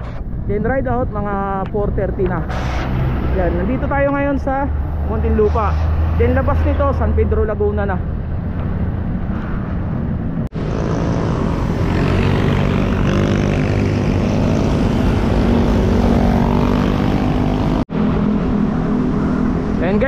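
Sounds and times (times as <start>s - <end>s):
drone of vehicle engines: 1.3s - 20.0s.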